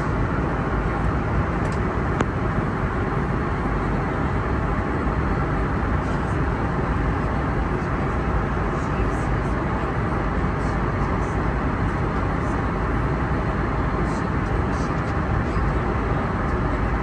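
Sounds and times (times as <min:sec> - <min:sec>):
airplane cabin airflow and engine noise: 0:00.0 - 0:17.0.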